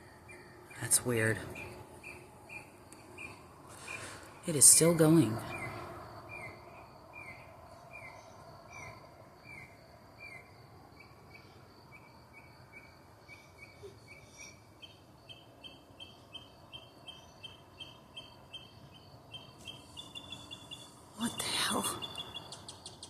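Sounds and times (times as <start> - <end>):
bird singing at night: 0.0 - 23.0
high insect trill: 0.0 - 23.0.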